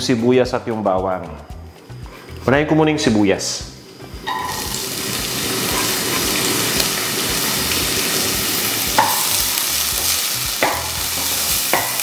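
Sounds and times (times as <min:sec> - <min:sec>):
onion sizzling in oil: 0:01.7 - 0:12.0.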